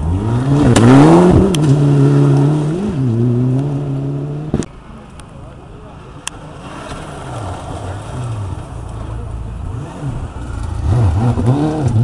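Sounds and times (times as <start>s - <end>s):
rally car engine at high revs: 0.0s - 4.7s, 6.6s - 12.0s.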